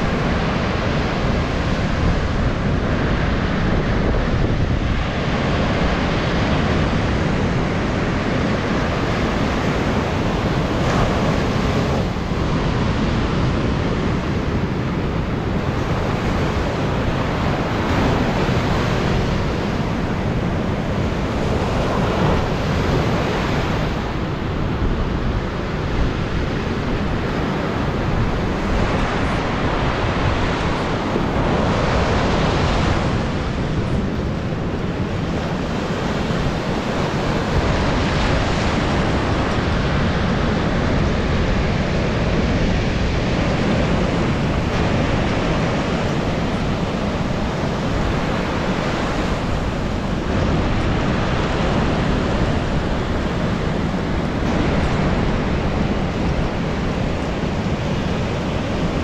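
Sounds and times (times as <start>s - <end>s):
surf breaking on sand: 0.0s - 59.0s
wind rumbling on microphone: 0.0s - 59.0s.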